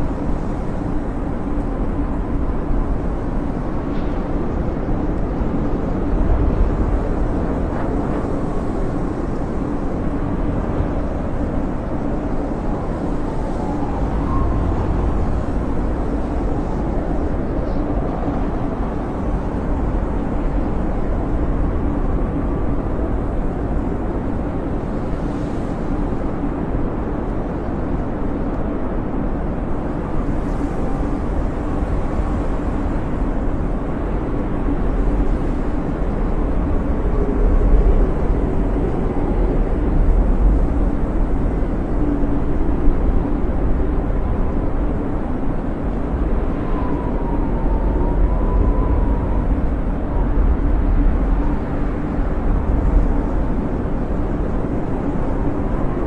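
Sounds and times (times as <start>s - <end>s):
faint high wind whistles: 0.0s - 56.0s
snowstorm wind rushing: 0.0s - 56.0s.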